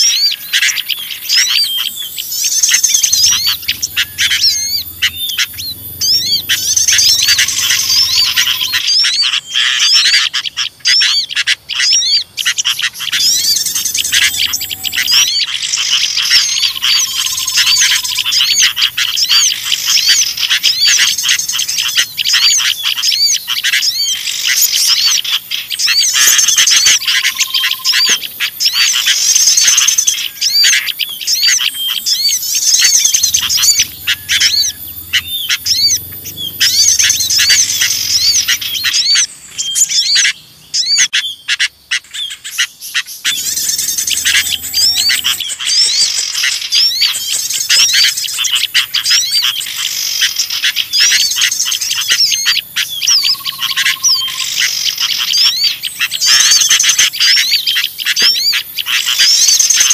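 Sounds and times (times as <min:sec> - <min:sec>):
bulbuls chattering: 0:00.0 - 0:59.9
small songbirds chirping: 0:00.0 - 0:59.9.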